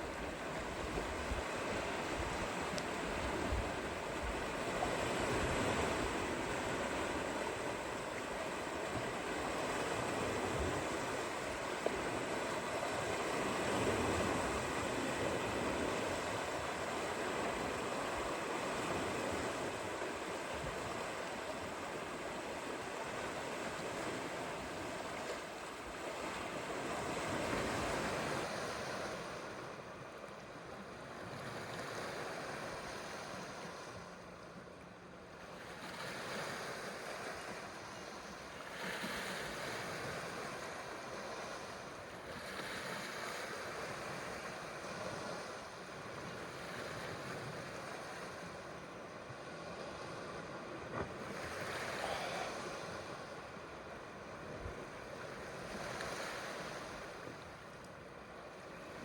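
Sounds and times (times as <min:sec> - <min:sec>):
waves washing onto shore: 0:00.0 - 0:34.6, 0:35.3 - 0:59.0.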